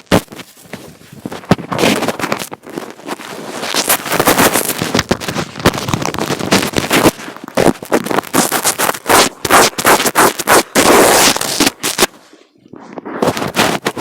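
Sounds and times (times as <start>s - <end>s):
fingers rubbing on microphone: 0.0s - 14.0s.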